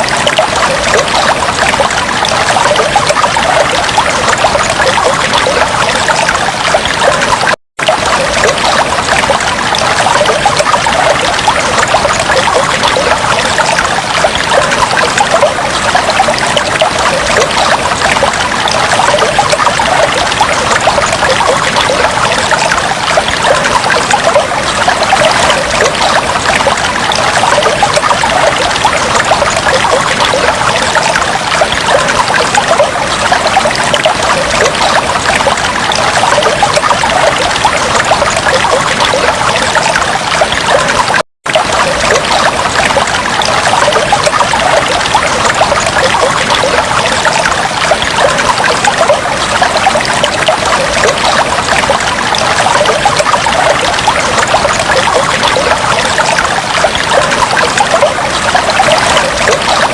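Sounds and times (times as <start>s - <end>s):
fish tank water bubbling: 0.0s - 59.9s.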